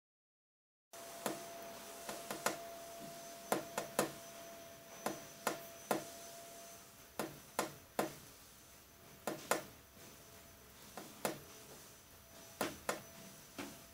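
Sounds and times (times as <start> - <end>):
faint hiss: 1.0 - 13.9
thin steady tone: 1.0 - 13.9.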